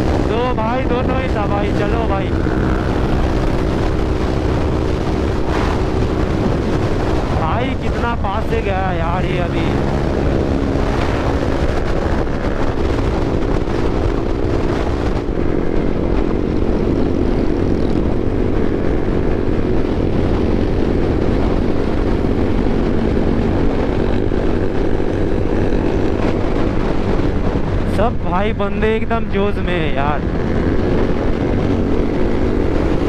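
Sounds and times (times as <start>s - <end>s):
motorcycle engine running: 0.0s - 33.0s
wind rushing over microphone: 0.0s - 33.0s.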